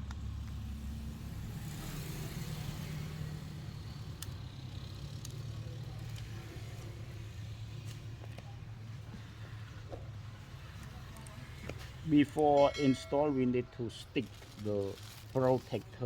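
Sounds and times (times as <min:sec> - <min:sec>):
low hum of traffic or engine: 0:00.0 - 0:16.0.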